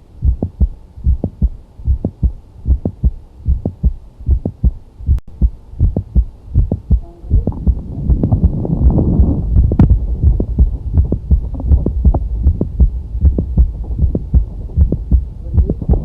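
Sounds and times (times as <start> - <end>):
heartbeat lub-dub: 0.0 - 16.0.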